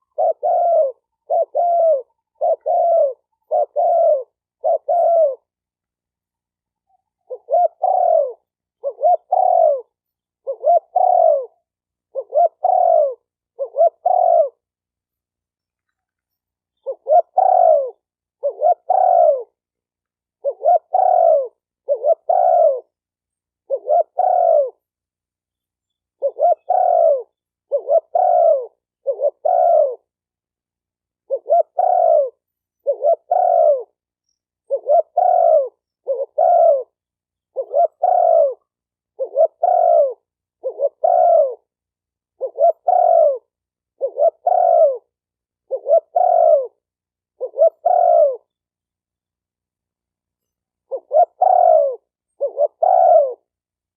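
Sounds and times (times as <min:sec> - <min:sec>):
dove cooing: 0:00.0 - 0:05.6, 0:06.9 - 0:14.8, 0:16.8 - 0:19.7, 0:20.3 - 0:23.0, 0:23.6 - 0:24.9, 0:26.2 - 0:30.2, 0:31.2 - 0:34.0, 0:34.6 - 0:48.6, 0:50.8 - 0:53.6.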